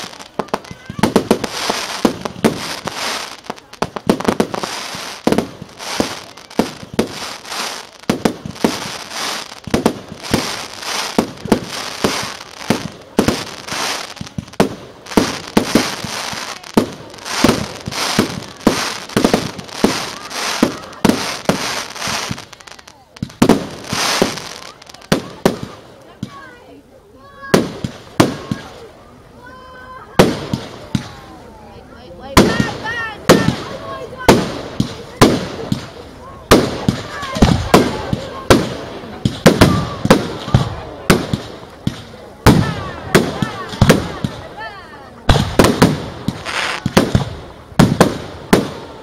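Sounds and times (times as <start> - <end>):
fireworks bursting: 0.0 - 26.8, 27.4 - 49.0
fireworks crackling: 0.0 - 49.0.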